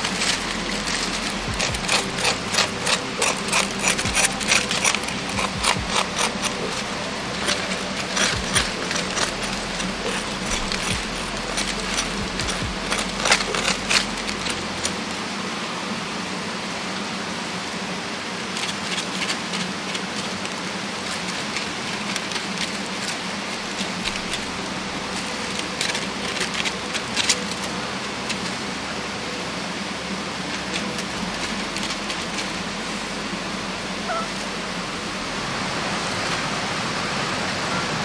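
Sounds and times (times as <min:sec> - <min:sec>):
rain hiss: 0:00.0 - 0:38.0.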